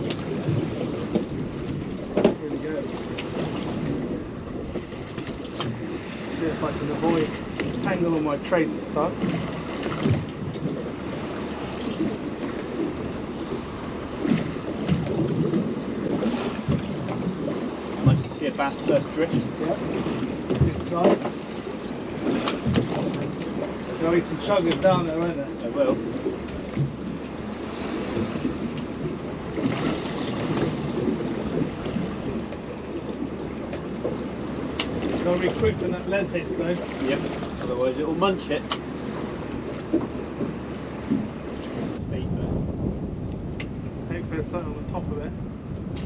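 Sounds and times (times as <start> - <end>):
water lapping against boat hull: 0.0 - 46.0
wind buffeting microphone: 0.0 - 46.0.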